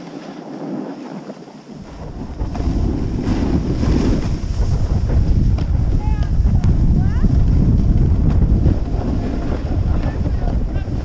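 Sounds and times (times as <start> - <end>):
skis sliding on packed snow: 0.0 - 11.0
wind buffeting microphone: 0.0 - 11.0.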